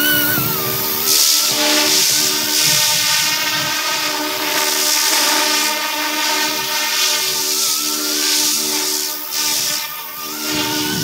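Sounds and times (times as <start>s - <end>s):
rc helicopter motor whine: 0.0s - 11.0s
spinning rotors hissing: 0.0s - 11.0s.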